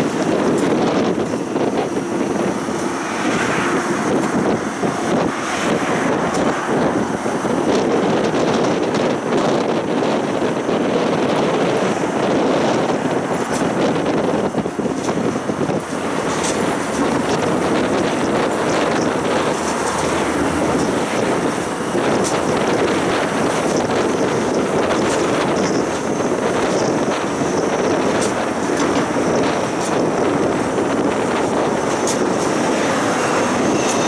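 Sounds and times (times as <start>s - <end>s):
tram wheels rumbling on rails: 0.0s - 34.0s.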